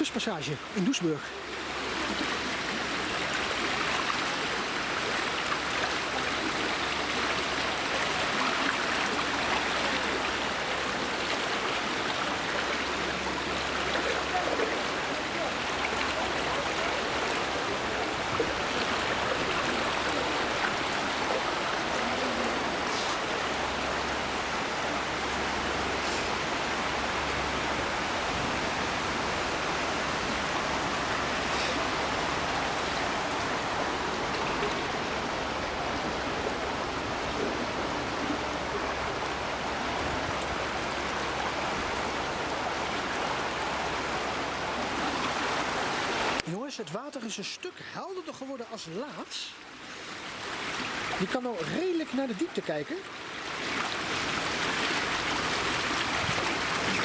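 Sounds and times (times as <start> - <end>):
water rushing through concrete basins: 0.0 - 57.0.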